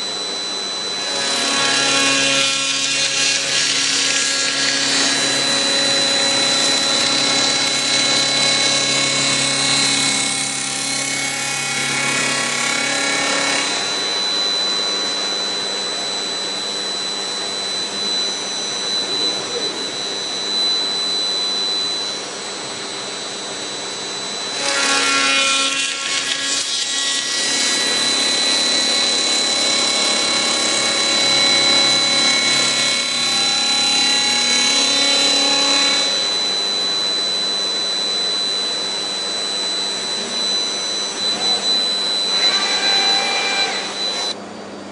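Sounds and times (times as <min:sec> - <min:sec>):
cutter machining wood: 0:00.0 - 0:22.2, 0:24.0 - 0:44.4
machine spindle high whine: 0:00.0 - 0:44.9.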